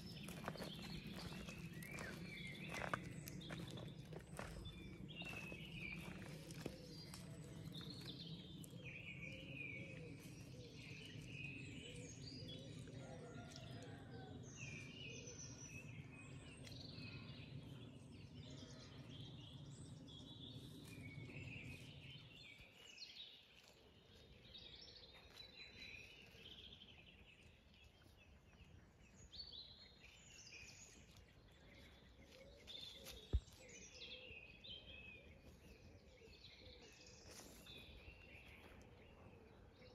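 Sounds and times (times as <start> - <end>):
birds singing and calling: 0.0 - 13.4, 14.4 - 39.9.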